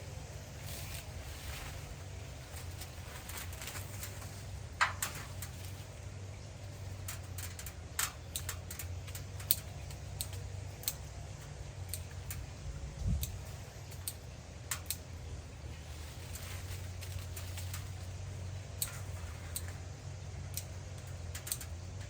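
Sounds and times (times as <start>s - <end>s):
steady low hum: 0.0s - 22.0s
shears snipping twigs: 0.3s - 22.0s.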